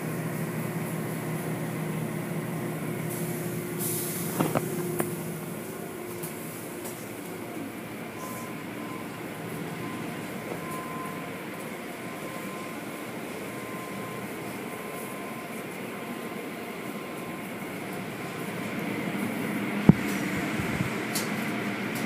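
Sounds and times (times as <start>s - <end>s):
car wash machinery noise: 0.0s - 22.0s.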